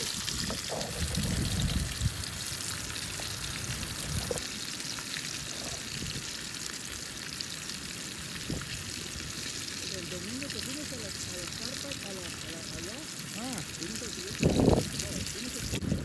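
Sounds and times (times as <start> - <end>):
fish sizzling in frying pan: 0.0 - 16.0.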